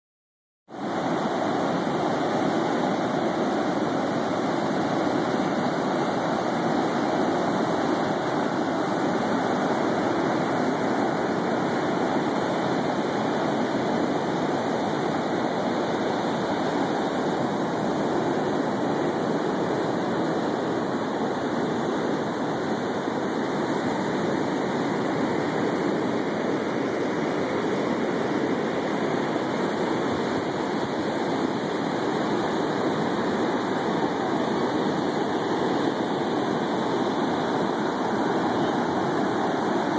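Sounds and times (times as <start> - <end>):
ocean waves breaking on beach: 0.7 - 39.9.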